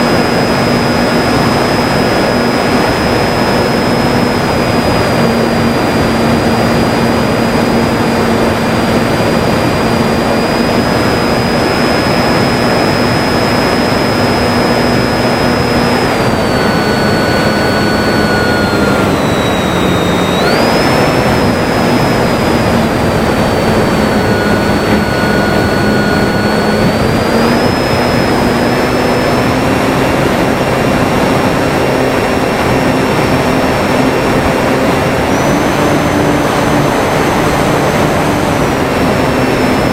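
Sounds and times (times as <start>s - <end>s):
loud steady rushing noise: 0.0s - 39.9s
model plane motor whining: 0.0s - 39.9s.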